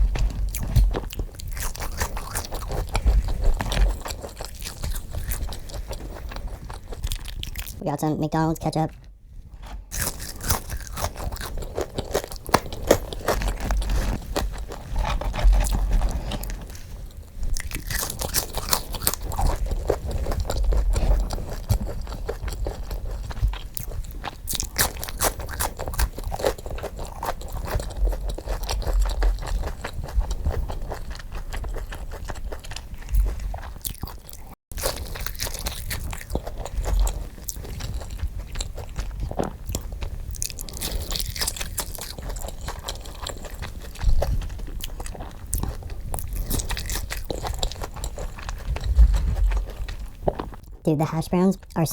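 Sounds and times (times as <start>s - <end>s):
crunching and chewing food: 0.0s - 51.9s.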